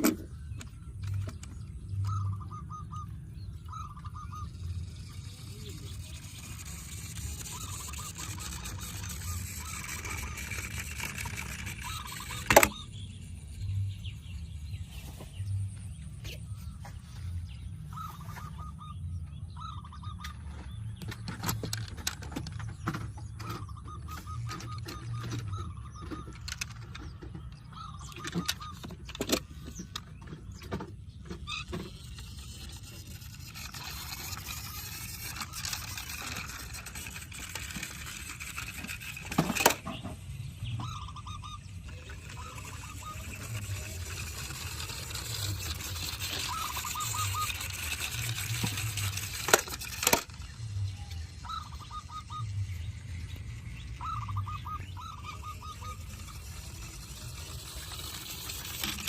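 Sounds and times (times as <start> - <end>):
toy vehicles clicking: 0.0 - 17.0, 19.6 - 59.0
thin whine: 0.0 - 59.0.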